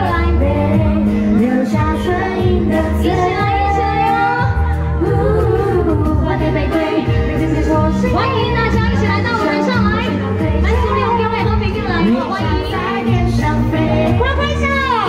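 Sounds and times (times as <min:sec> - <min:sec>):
heavy bass backing track: 0:00.0 - 0:15.0
woman singing: 0:00.0 - 0:15.0.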